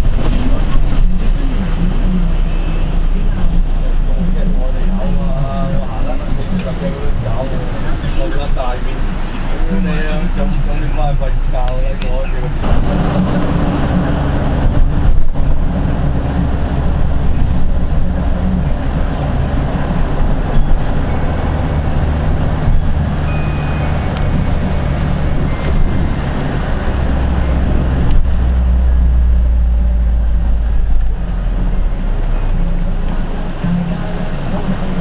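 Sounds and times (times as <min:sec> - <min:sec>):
engine and road rumble: 0:00.0 - 0:35.0.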